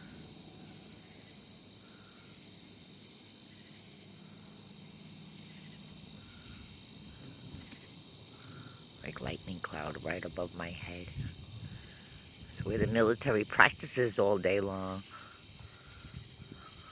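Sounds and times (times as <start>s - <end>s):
crickets trilling: 0.0s - 16.9s
short insect call: 0.0s - 16.9s.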